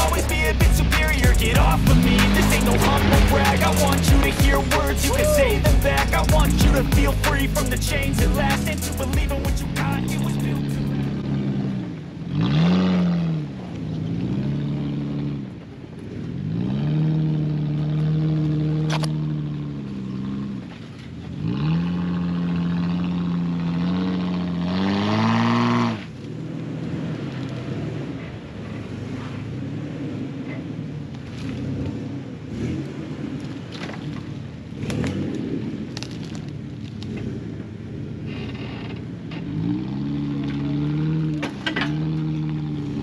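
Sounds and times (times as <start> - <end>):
engine revving: 0.0 - 20.7, 21.3 - 43.0.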